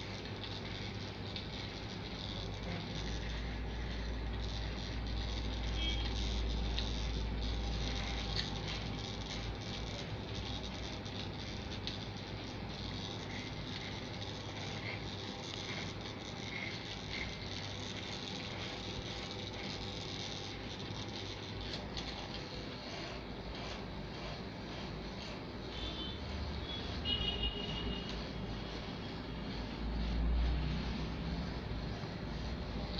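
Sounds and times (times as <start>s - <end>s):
blades rasping through hair: 0.0s - 32.9s.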